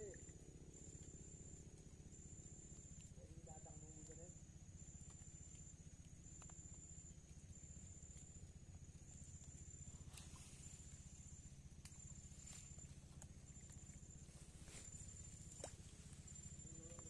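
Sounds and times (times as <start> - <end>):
high-pitched insect call: 0.0 - 17.0
low hum: 0.0 - 17.0.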